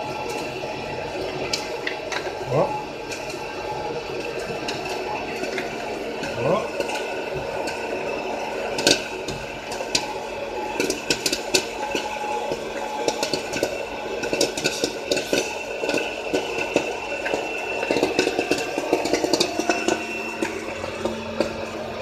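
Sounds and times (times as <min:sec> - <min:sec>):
machine humming: 0:00.0 - 0:22.0
popcorn popping: 0:00.0 - 0:22.0.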